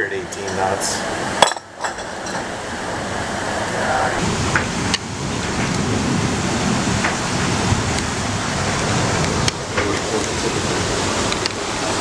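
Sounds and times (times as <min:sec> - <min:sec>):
rushing water: 0:00.0 - 0:12.0
wind: 0:00.0 - 0:12.0.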